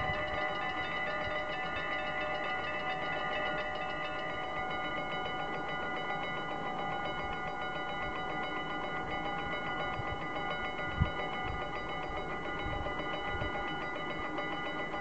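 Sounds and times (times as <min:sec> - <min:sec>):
level crossing bells ringing: 0:00.0 - 0:15.0.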